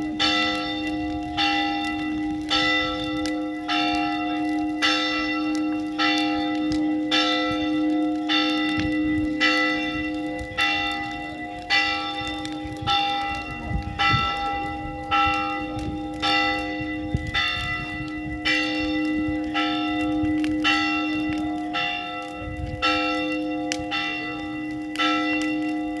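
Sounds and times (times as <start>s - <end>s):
church bell tolling: 0.0s - 26.0s.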